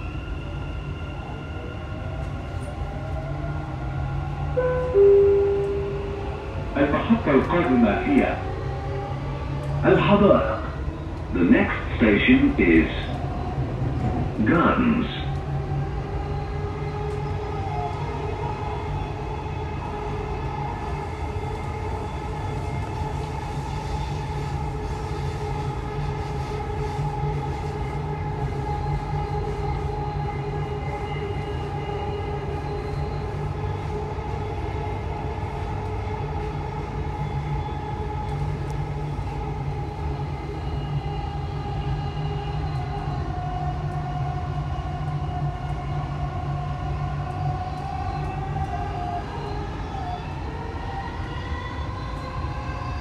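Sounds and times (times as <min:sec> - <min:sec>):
train rumble with electric whine: 0:00.0 - 0:53.0.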